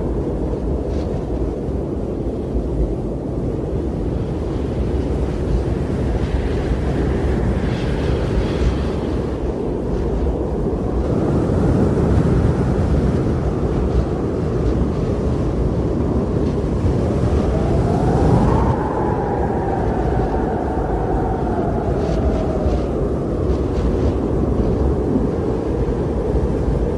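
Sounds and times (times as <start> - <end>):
faint wind whistle: 0.0 - 26.9
strong blizzard wind: 0.0 - 26.9.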